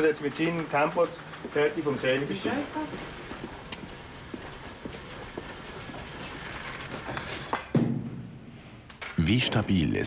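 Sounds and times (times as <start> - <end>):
low mechanical noise: 0.0 - 10.0.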